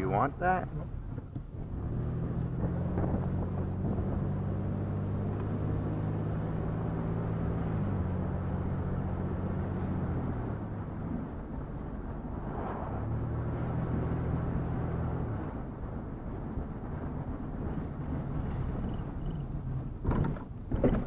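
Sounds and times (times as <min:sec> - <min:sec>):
vehicle engine running: 0:00.5 - 0:20.1.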